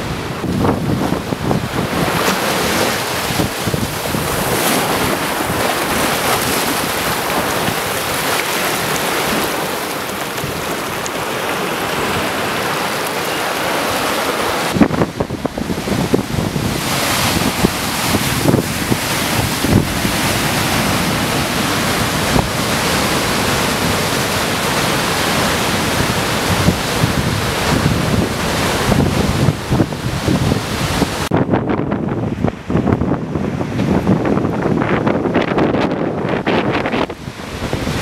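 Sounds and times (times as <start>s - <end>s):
ocean swell breaking over rocks: 0.0s - 38.0s
wind buffeting the microphone: 0.0s - 38.0s.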